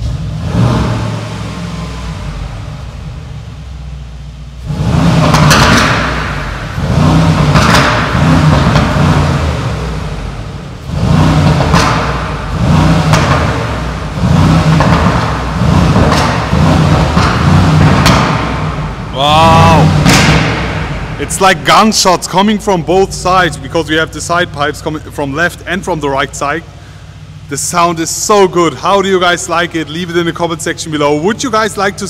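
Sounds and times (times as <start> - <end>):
car engine idling and revving: 0.0 - 32.0
exhaust pops: 0.0 - 32.0.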